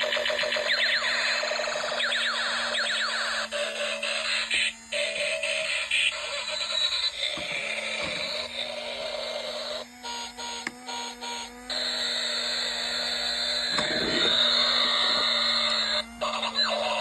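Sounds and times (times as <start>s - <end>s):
low electronic hum: 1.5s - 17.0s.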